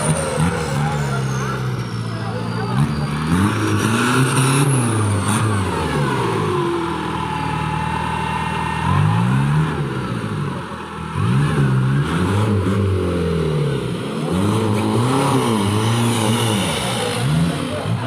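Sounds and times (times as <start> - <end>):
engine revving up and down: 0.0 - 7.2, 8.4 - 18.0.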